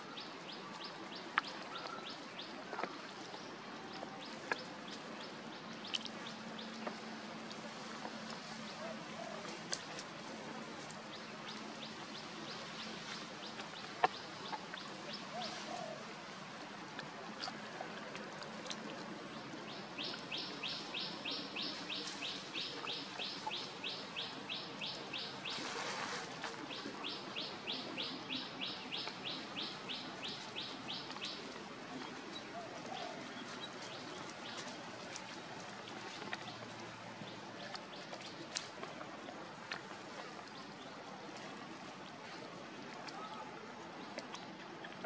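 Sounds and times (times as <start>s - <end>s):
rustle: 0.0s - 45.0s.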